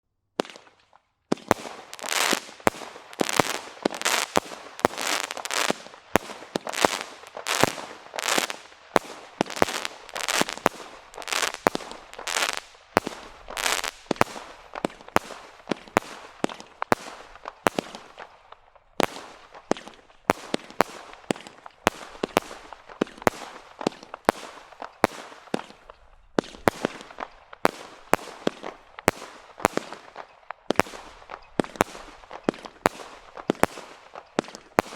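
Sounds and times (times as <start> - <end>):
firework bangs with crackling hiss: 0.4 - 34.9.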